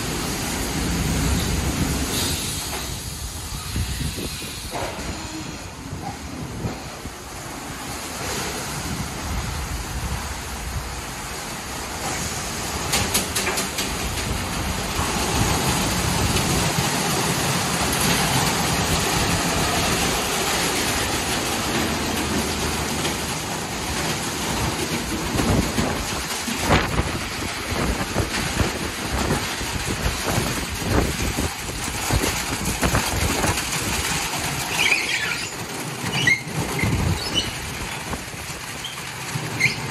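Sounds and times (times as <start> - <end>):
water spraying: 0.0 - 39.9.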